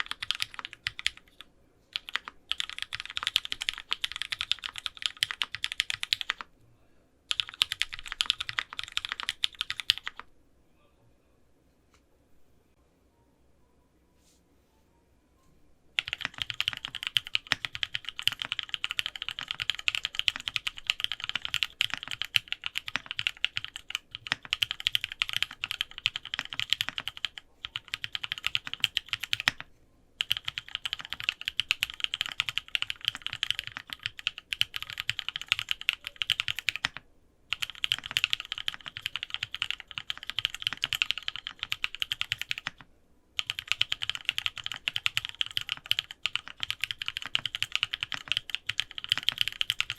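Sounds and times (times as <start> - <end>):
mechanical keyboard typing: 0.0 - 6.5, 7.3 - 10.3, 16.0 - 49.9.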